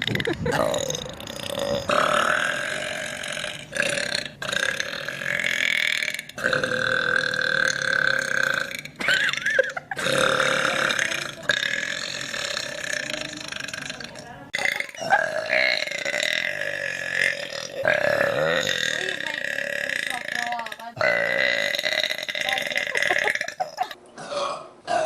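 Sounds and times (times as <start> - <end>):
woman burping: 0.0 - 25.0.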